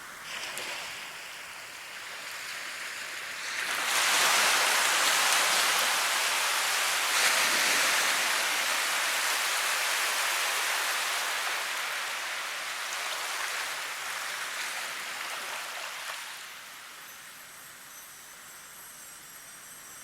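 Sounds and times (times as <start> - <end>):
rushing water: 0.0 - 17.6.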